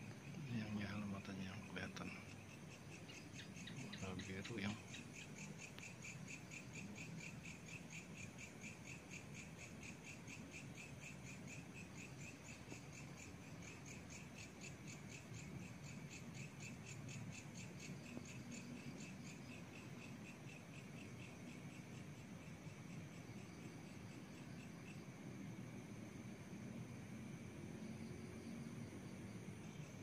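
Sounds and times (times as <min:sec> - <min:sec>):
faint crickets chirping: 0:00.0 - 0:30.0.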